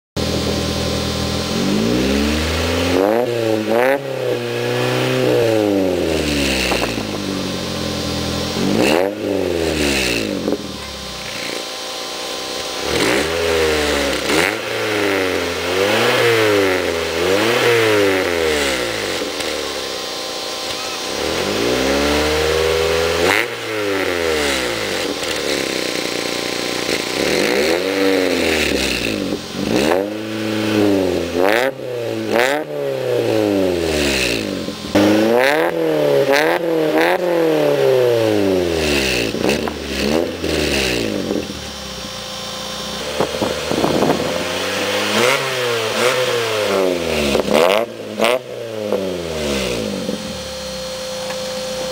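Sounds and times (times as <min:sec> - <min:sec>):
car engine revving: 0:00.2 - 0:51.9.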